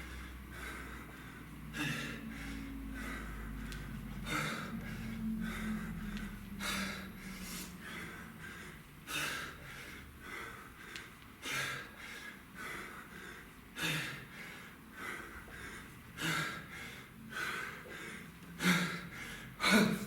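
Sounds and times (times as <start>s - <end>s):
man breathing hard: 0.0s - 20.0s.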